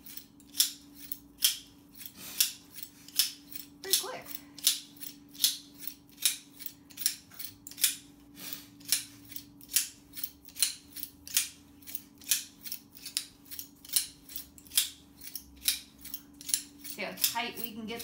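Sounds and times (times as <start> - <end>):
small metal clicks: 0.0 - 8.1, 8.8 - 17.8
pliers metallic rasp: 0.0 - 18.0.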